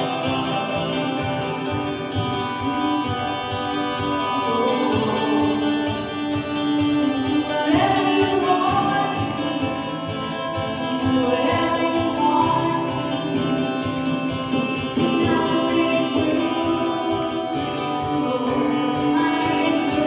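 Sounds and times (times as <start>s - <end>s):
guitar accompaniment: 0.0s - 20.0s
person singing: 0.0s - 20.0s.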